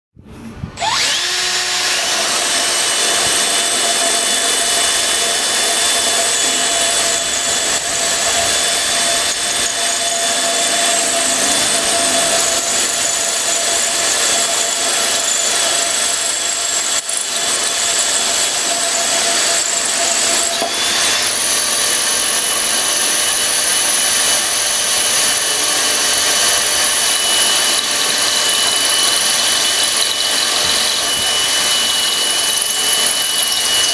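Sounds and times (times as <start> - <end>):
drills grinding into masonry: 0.7 - 33.9.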